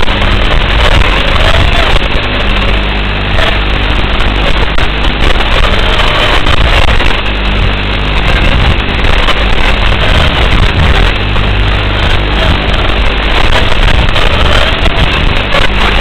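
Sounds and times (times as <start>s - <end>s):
drone motors buzzing: 0.0s - 16.0s.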